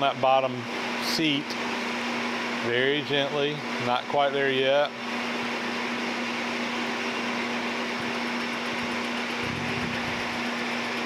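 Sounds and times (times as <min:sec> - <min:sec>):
metal lathe motor humming: 0:00.0 - 0:11.0.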